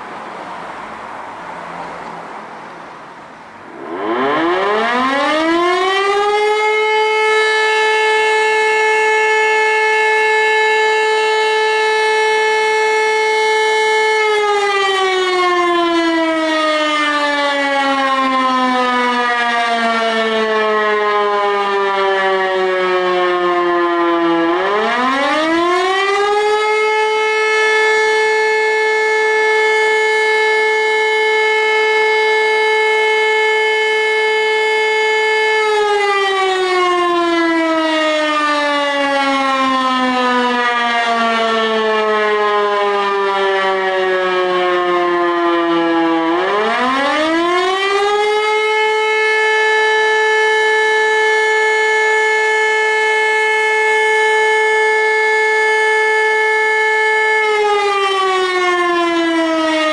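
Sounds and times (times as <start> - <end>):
siren wailing: 3.5 - 59.9.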